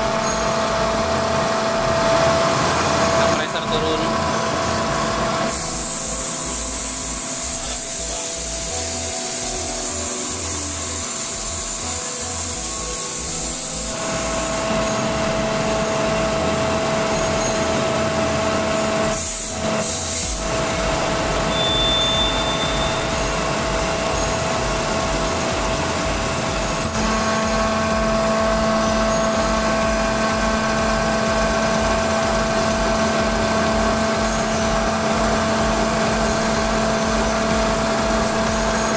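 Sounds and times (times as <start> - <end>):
air compressor running: 0.0 - 38.9
air hissing: 4.1 - 38.9.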